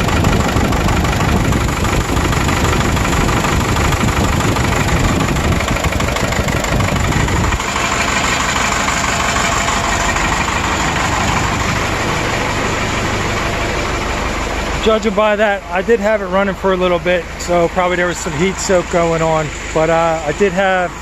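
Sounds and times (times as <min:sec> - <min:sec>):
diesel engine with pulsing exhaust: 0:00.0 - 0:21.0.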